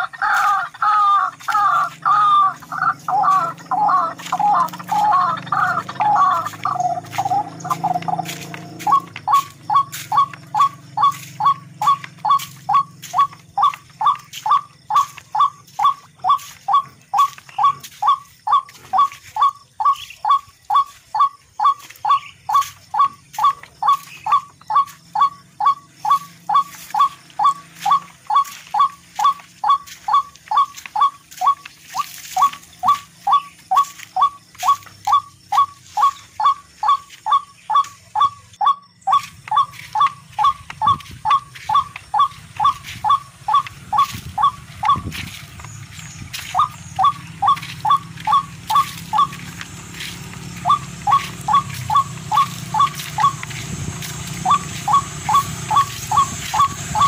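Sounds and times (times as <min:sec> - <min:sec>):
bird-like down-slurred call: 0:00.0 - 0:57.0.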